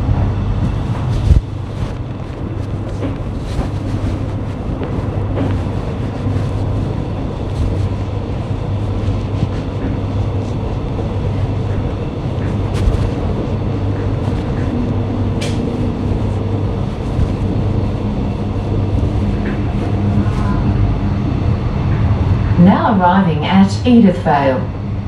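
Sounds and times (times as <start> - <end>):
train wheels on rails: 0.0 - 24.3
electric train rumble and hum: 0.0 - 25.0.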